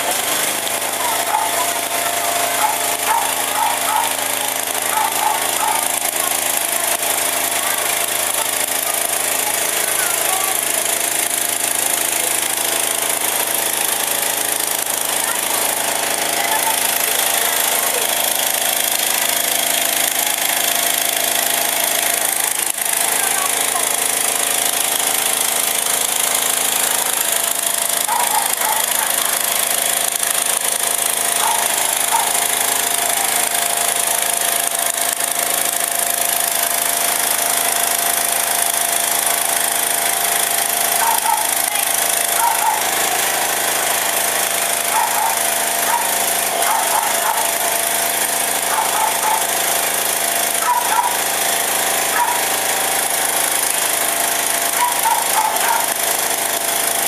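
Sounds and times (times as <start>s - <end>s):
fire truck engine and pump: 0.0s - 57.0s.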